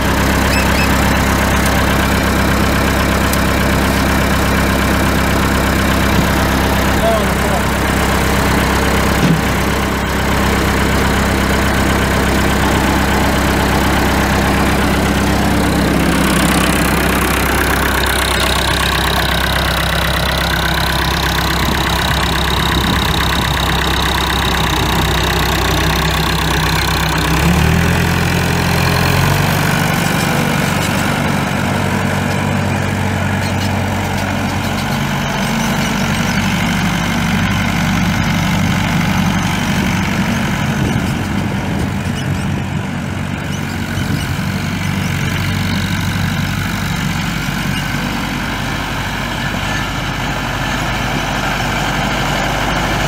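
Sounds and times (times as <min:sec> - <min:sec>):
tractor diesel engine idling: 0:00.0 - 0:53.0.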